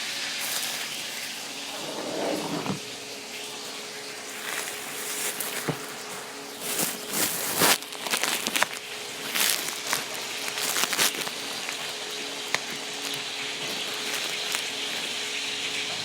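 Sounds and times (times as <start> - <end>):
fish frying in hot oil: 0.0 - 1.7, 2.8 - 16.0.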